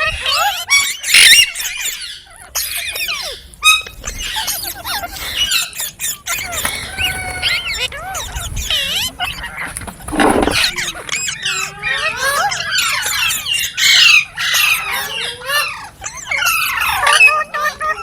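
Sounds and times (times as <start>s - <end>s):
parrot chirping and squawking: 0.0s - 18.0s.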